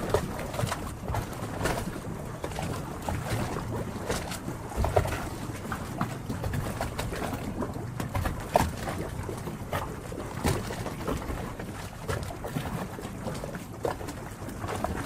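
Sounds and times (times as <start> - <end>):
water lapping and sloshing: 0.0 - 15.0.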